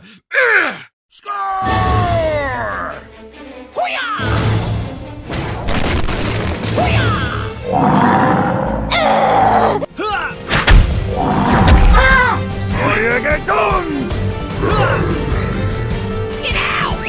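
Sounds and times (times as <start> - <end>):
background music: 1.2 - 17.0.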